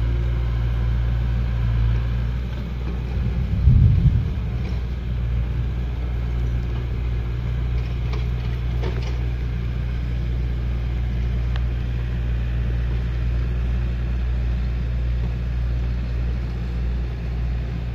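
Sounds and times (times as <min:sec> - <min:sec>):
diesel engine humming: 0:00.0 - 0:17.9.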